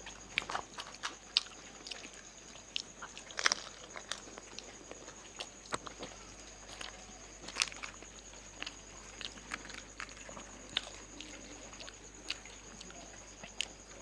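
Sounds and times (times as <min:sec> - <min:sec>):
crisp shells crunching when chewed: 0:00.2 - 0:13.8.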